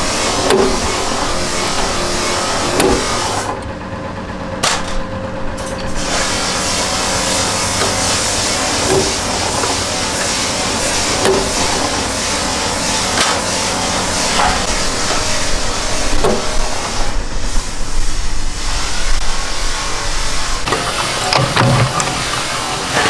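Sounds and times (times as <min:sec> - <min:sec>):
punch press humming: 0:00.0 - 0:23.0.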